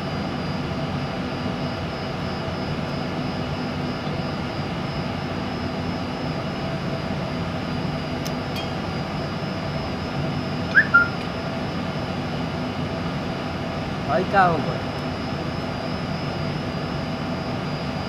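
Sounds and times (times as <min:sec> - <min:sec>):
machine-like hum: 0:00.0 - 0:18.0.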